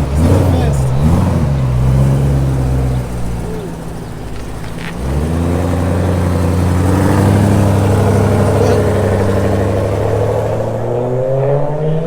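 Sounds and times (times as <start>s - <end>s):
car engine running: 0.0s - 10.9s.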